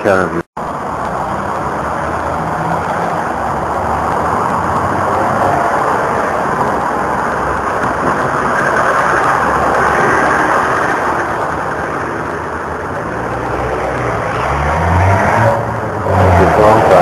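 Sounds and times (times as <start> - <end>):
road traffic roar: 0.0 - 17.0.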